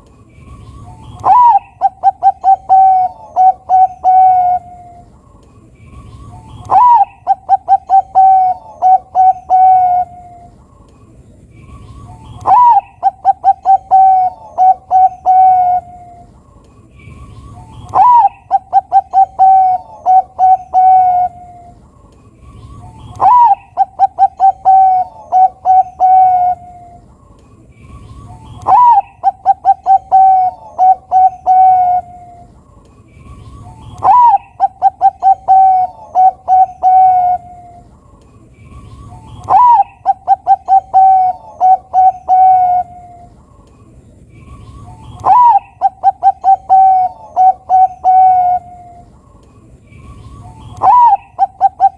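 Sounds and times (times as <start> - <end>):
dove cooing: 0.7 - 5.1, 6.0 - 10.6, 11.9 - 16.4, 17.1 - 21.8, 22.6 - 27.0, 28.0 - 32.5, 33.3 - 37.9, 39.0 - 43.3, 44.7 - 49.1, 50.3 - 51.9.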